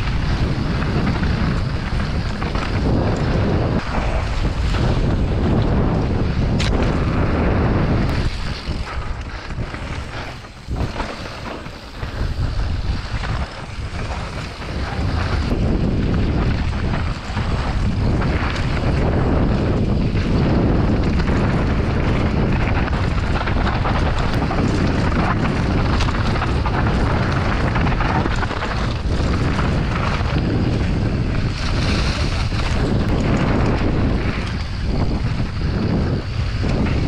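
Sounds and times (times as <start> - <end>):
bike rattling and clicking: 0.0 - 37.0
tyres rolling over dirt and leaves: 0.0 - 37.0
wind buffeting microphone: 0.0 - 37.0.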